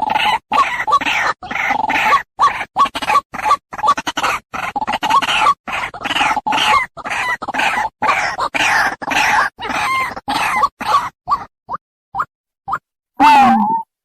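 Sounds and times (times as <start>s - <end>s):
bird harsh croaking calls: 0.0s - 11.5s.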